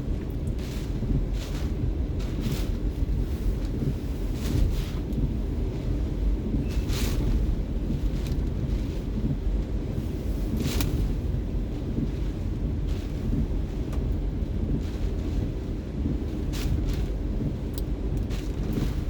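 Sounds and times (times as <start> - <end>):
hurricane wind on microphone: 0.0 - 19.0.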